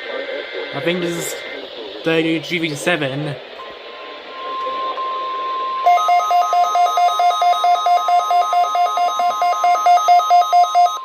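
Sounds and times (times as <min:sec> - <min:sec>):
steady alarm tone: 0:00.0 - 0:11.0
warbling electronic alarm: 0:00.0 - 0:11.0.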